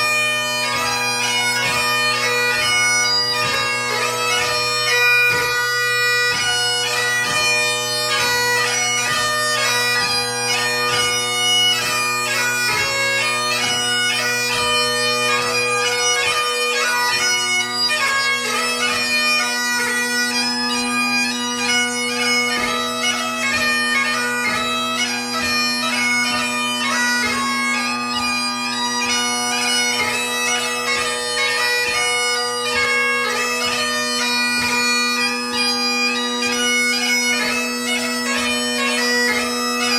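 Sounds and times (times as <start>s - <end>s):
bagpipe drones: 0.0s - 39.9s
fast bagpipe chanter melody: 0.0s - 39.9s.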